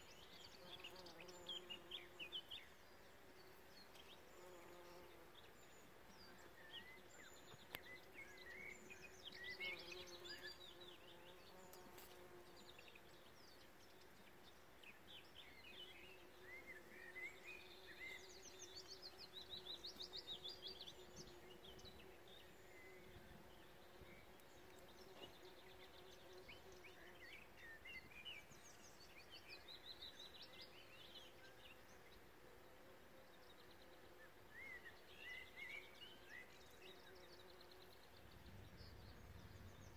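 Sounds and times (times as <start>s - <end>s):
bird twittering song: 0.0s - 32.2s, 33.2s - 39.9s.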